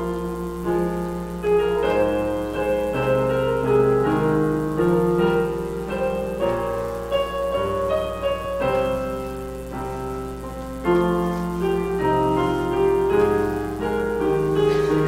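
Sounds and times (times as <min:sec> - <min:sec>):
piano playing slow hymn chords: 0:00.0 - 0:15.0.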